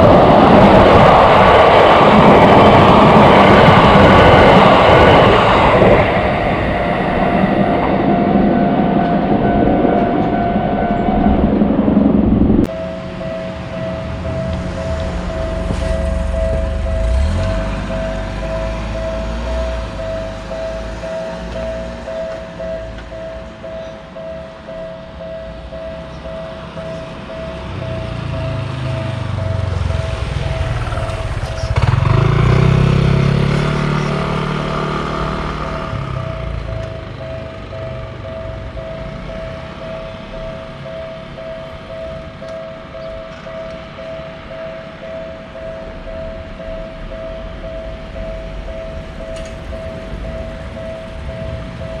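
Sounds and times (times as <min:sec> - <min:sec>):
electric train rumble: 0:00.0 - 0:52.0
two-tone crossing warning bell: 0:00.0 - 0:52.0.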